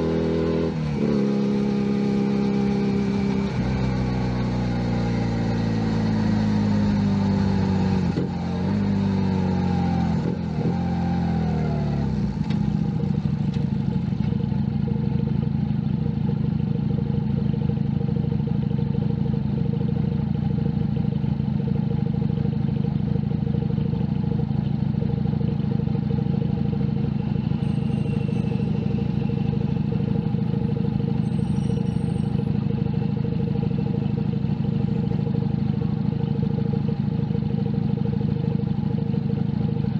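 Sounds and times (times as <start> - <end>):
motorcycle engine slowing and idling: 0.0 - 39.9.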